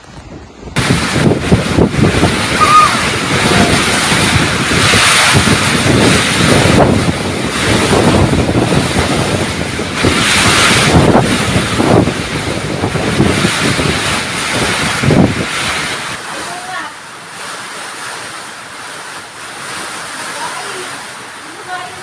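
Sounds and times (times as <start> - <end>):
strong wind gusting: 0.0 - 22.0
wind buffeting microphone: 0.0 - 22.0.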